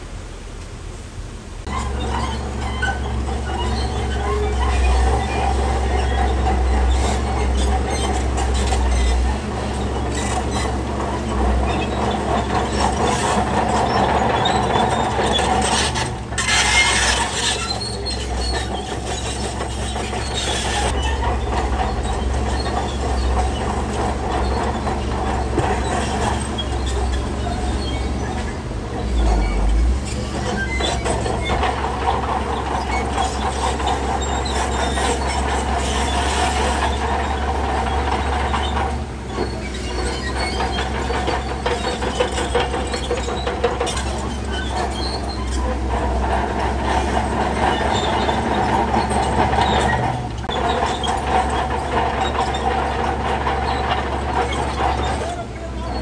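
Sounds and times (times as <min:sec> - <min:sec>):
diesel engine running: 0:00.0 - 0:56.0
steel tracks clanking: 0:01.6 - 0:56.0.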